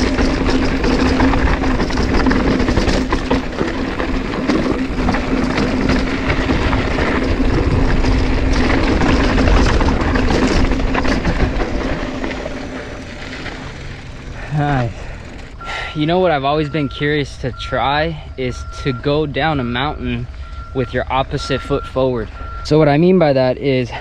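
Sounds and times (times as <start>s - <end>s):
bike rattling over bumps: 0.0s - 24.0s
tyres rumbling over dirt and rock: 0.0s - 24.0s.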